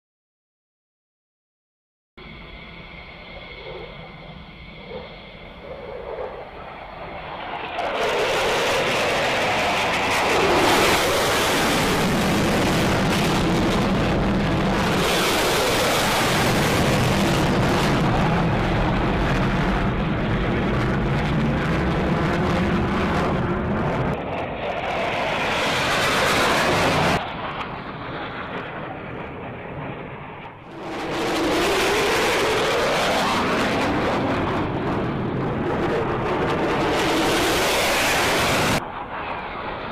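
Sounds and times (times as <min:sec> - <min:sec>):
jet engine roar: 0:02.2 - 0:39.9.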